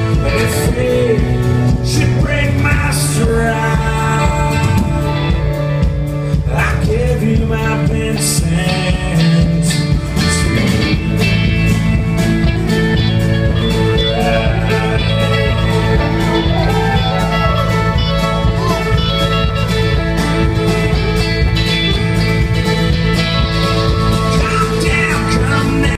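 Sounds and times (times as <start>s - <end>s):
acoustic guitar: 0.0s - 25.9s
electric guitar: 0.0s - 25.9s
steady drum beat: 0.0s - 25.9s.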